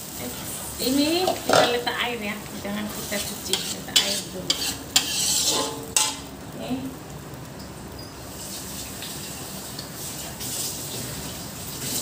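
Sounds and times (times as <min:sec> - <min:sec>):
wet bubbling sizzle: 0:00.0 - 0:12.0.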